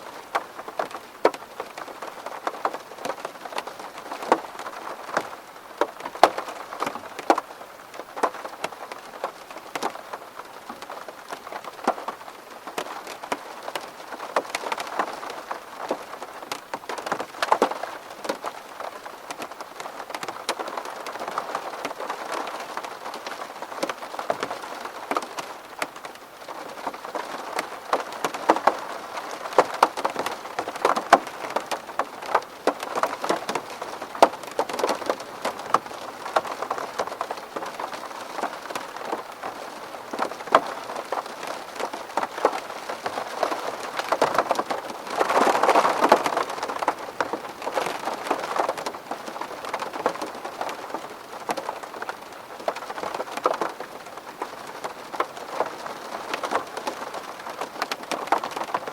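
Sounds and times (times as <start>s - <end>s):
rain hissing on a window: 0.0s - 58.9s.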